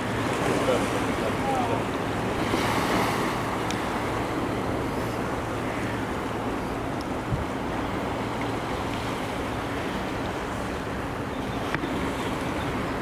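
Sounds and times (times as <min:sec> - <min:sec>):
sea surf: 0:00.0 - 0:13.0.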